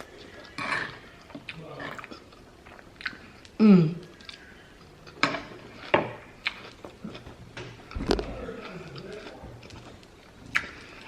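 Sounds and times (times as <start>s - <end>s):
person eating: 0.0s - 11.0s.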